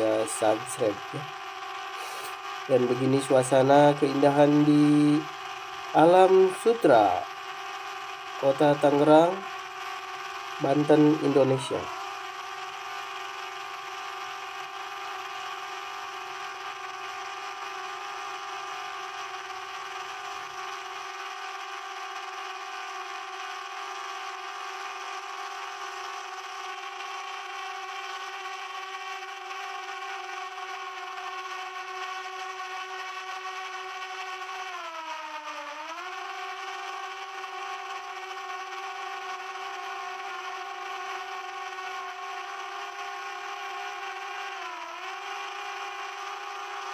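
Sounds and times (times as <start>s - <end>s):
drone propellers whining: 0.0s - 46.9s.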